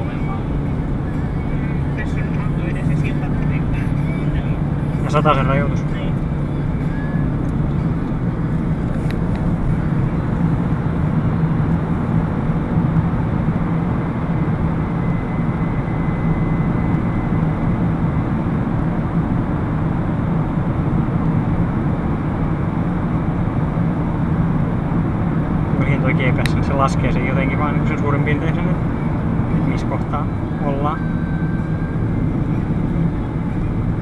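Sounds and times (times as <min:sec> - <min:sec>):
car engine and tyre noise: 0:00.0 - 0:34.0.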